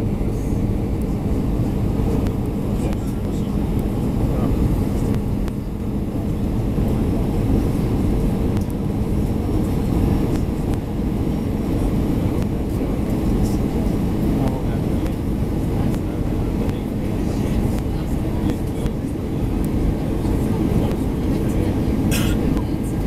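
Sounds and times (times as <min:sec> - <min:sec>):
aircraft cabin engine rumble: 0:00.0 - 0:23.0.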